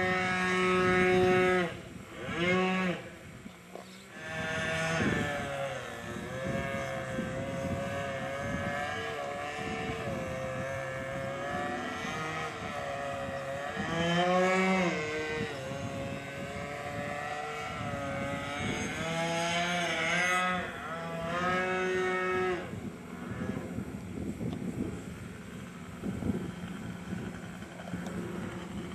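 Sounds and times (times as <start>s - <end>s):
model aircraft engine: 0.0s - 28.9s.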